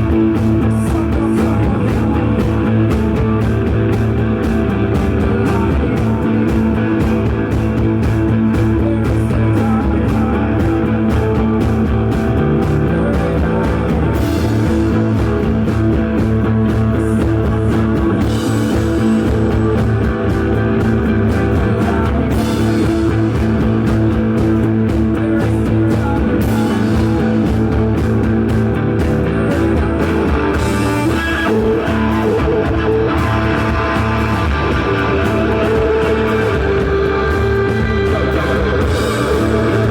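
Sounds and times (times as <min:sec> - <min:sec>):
droning electric guitars: 0:00.0 - 0:39.9
drum kit steady beat: 0:00.0 - 0:39.9.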